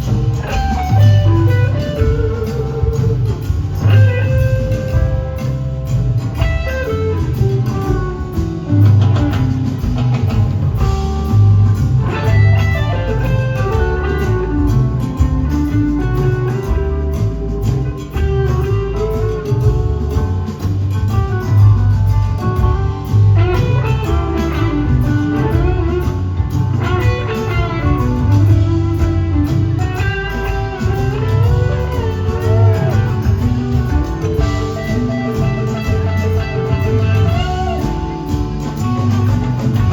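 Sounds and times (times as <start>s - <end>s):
electric guitar solo: 0.0s - 20.2s, 22.4s - 39.9s
blues-rock band jamming: 0.0s - 39.9s
heavy bass line: 0.0s - 39.9s.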